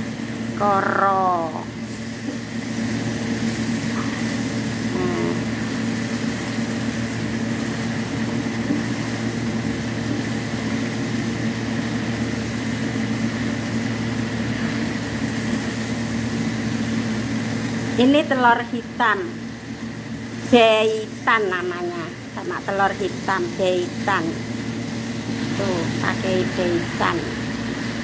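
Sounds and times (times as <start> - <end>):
motor hum: 0.0 - 28.0
vegetables sizzling in a skillet: 0.0 - 28.0.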